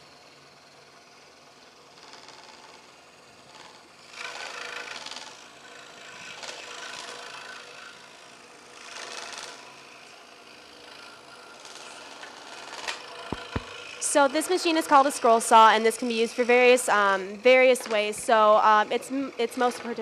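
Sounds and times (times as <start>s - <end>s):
scroll saws cutting thin wood: 3.5s - 20.0s.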